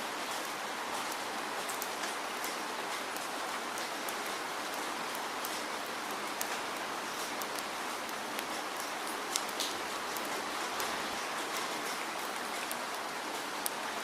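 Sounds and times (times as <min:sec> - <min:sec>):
rain hissing on a surface: 0:00.0 - 0:14.0
raindrops ticking: 0:00.0 - 0:14.0.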